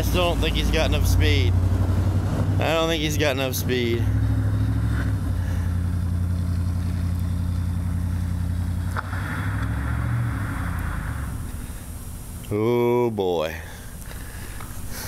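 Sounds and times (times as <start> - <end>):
truck engine under load: 0.0 - 12.4.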